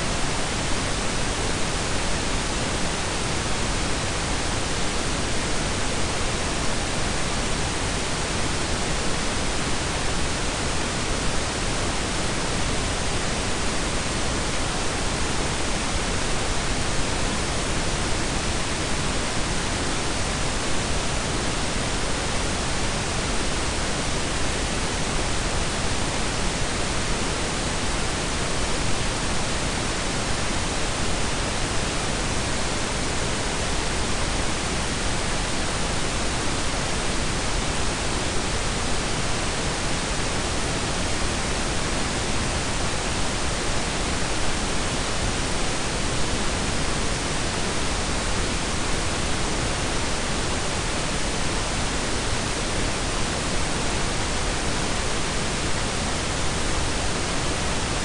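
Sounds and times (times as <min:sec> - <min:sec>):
steady noise hiss with rumble: 0:00.0 - 0:58.0.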